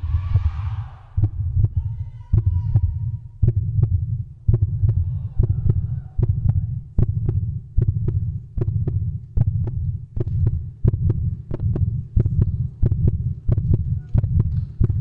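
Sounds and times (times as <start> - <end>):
heartbeat-style double thump: 0.0 - 15.0
steady low hum: 0.0 - 15.0.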